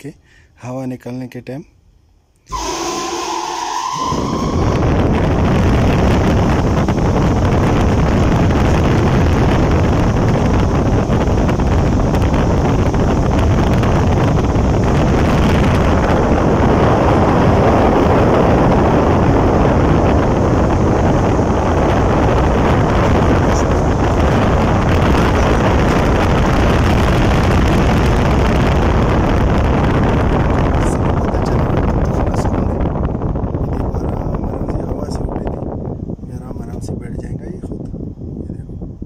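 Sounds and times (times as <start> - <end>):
blower rushing air: 2.5 - 39.0
wind buffeting microphone: 2.5 - 39.0.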